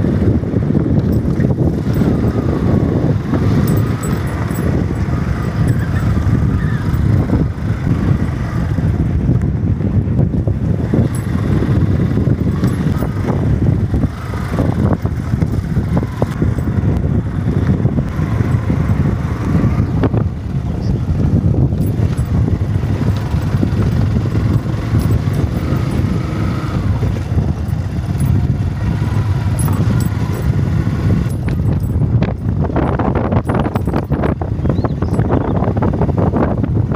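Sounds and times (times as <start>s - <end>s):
vehicle road and engine rumble: 0.0s - 36.9s
wind buffeting microphone: 0.0s - 36.9s.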